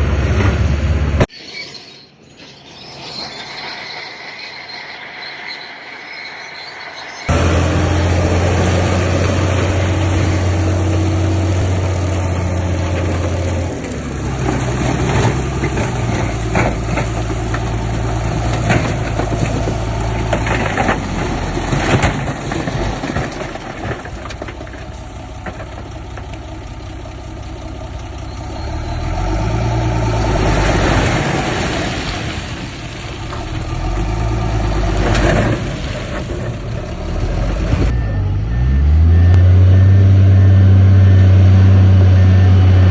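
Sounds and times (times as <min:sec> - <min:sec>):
heavy diesel engine: 0:00.0 - 0:01.3, 0:02.5 - 0:42.9.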